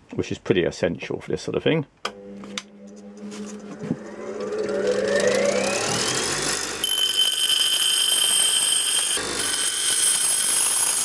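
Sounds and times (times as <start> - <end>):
bench grinder motor whine: 2.1 - 11.0.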